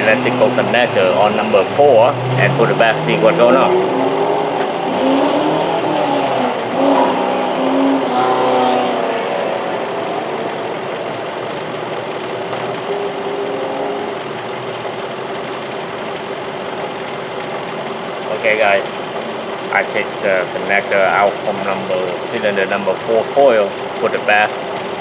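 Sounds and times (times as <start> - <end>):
car engine idling with misfire: 0.0 - 25.0.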